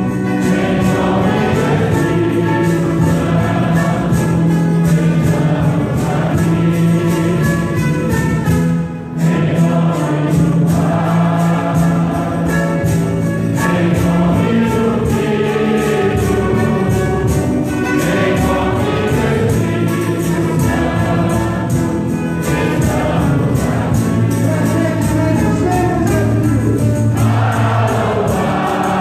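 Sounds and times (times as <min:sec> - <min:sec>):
choir singing over instruments: 0:00.0 - 0:29.0.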